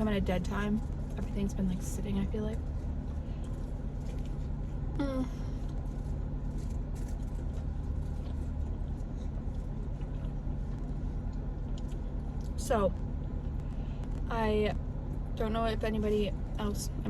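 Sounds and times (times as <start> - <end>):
air-conditioning fan: 0.0 - 17.0
car engine idling: 0.0 - 17.0.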